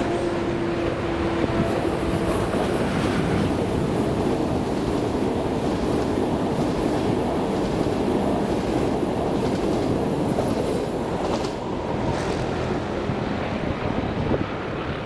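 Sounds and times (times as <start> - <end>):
train wheels rolling on rails: 0.0 - 14.8.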